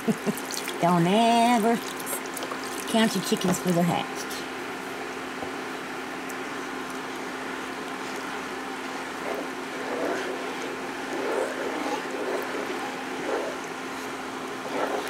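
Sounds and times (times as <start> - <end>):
induction cooktop hum: 0.0 - 15.0.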